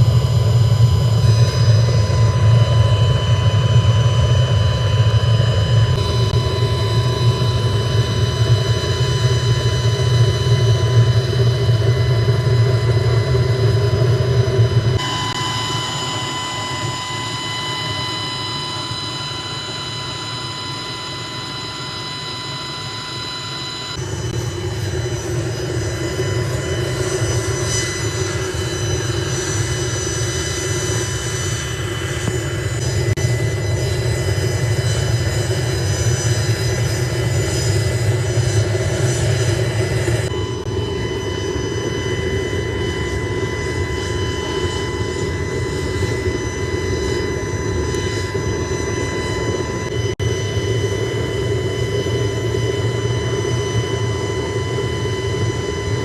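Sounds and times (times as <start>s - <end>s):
high machine whine: 0.0s - 56.0s.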